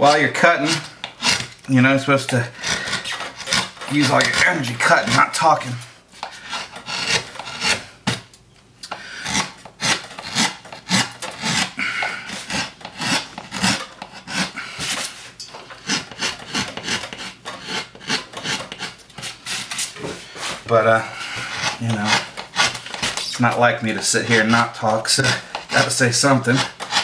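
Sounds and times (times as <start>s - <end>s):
gouge scraping wood: 0.0s - 8.2s, 9.2s - 27.0s.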